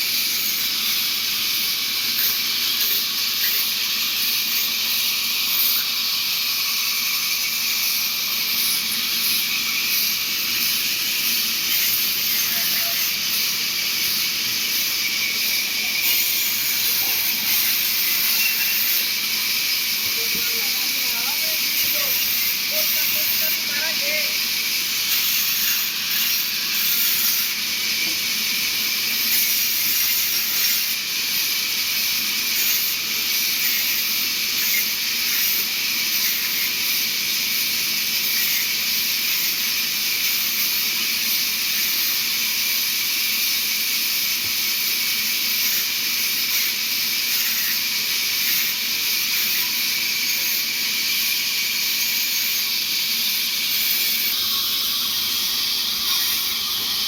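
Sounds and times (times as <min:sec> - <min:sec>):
sawmill saw hissing: 0:00.0 - 0:57.0.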